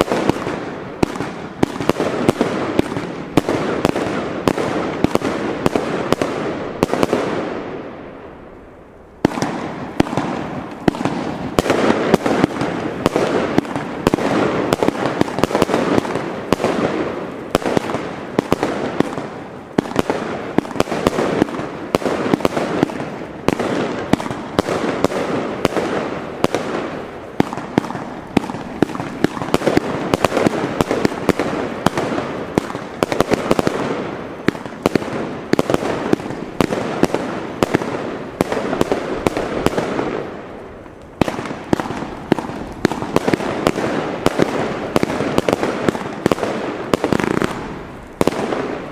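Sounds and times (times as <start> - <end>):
firework bursting reports: 0.0 - 48.9
firework crackle: 0.0 - 48.9.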